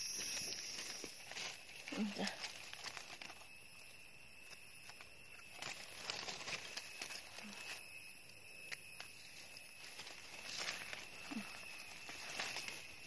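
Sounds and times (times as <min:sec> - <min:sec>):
high-pitched whine: 0:00.0 - 0:13.0
rustling through dry leaf litter: 0:00.0 - 0:13.0.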